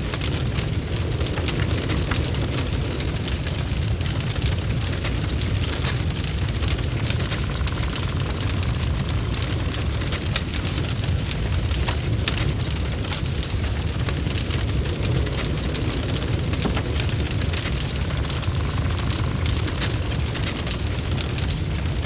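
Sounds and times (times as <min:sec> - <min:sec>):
bonfire popping and snapping: 0:00.0 - 0:22.0
flames low rumble: 0:00.0 - 0:22.0.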